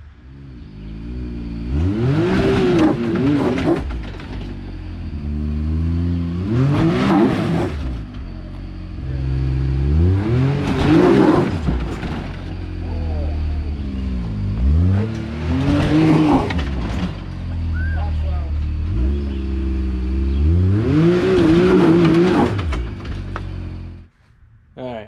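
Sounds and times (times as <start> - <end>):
engine revving: 0.0 - 24.1.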